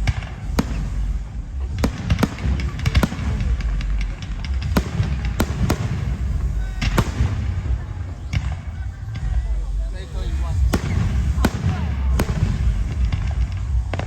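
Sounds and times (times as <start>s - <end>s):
fireworks bangs: 0.0s - 14.0s
steady low rumble: 0.0s - 14.0s.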